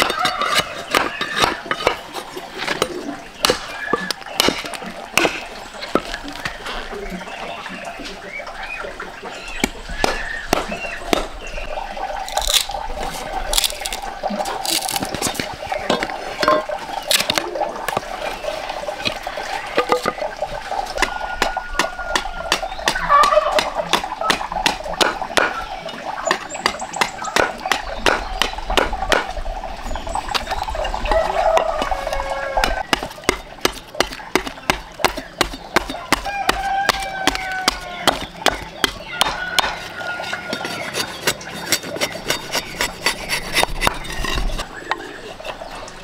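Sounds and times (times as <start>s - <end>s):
steady background noise: 0.0s - 46.0s.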